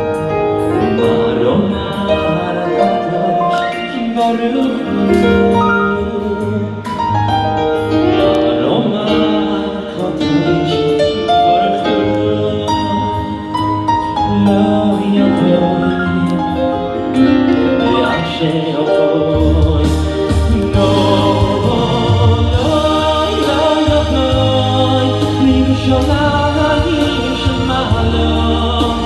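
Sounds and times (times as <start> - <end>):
electronic keyboard chords and bass: 0.0 - 8.6, 10.2 - 29.0
man singing into microphone: 0.0 - 29.0.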